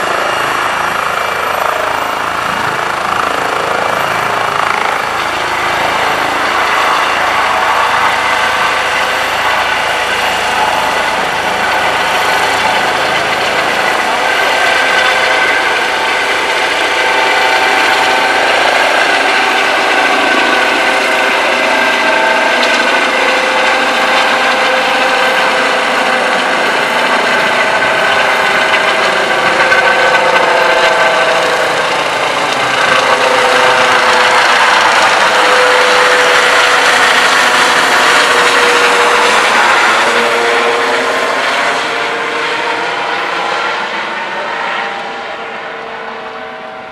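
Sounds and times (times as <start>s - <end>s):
helicopter turbine whine and rotor: 0.0s - 46.9s.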